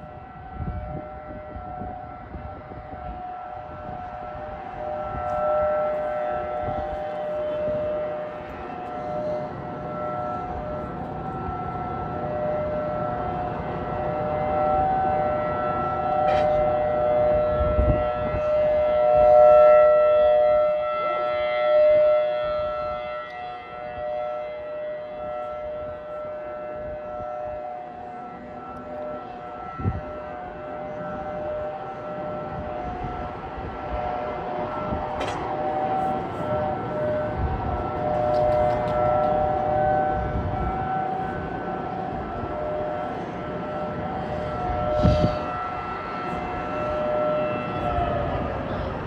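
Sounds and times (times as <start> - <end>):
warning siren wailing: 0.0 - 49.0.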